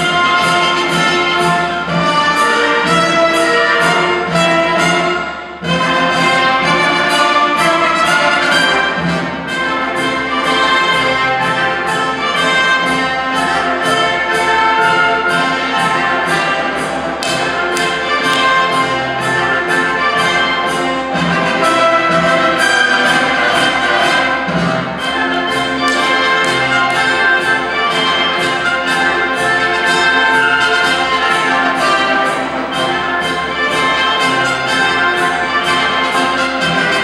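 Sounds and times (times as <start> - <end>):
brass-led orchestral music: 0.0 - 37.0.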